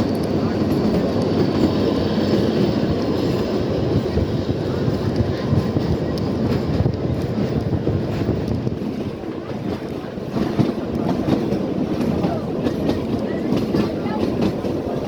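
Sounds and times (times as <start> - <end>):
train wheels rumbling on rail: 0.0 - 15.0
wind on microphone: 0.0 - 15.0.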